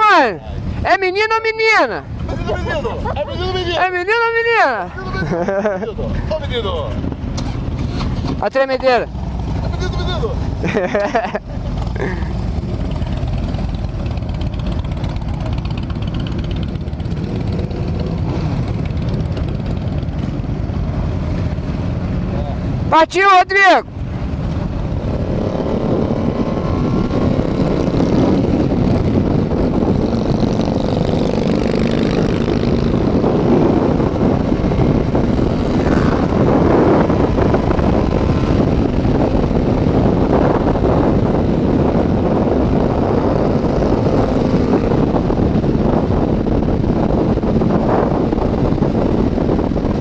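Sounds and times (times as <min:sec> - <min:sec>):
motorcycle engines running: 0:00.0 - 0:23.2, 0:23.8 - 0:50.0.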